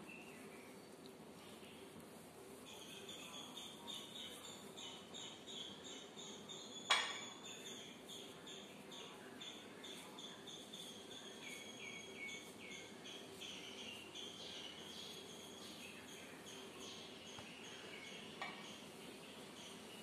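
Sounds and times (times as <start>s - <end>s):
faint steady hum: 0.0s - 20.0s
faint high chirping: 2.6s - 20.0s.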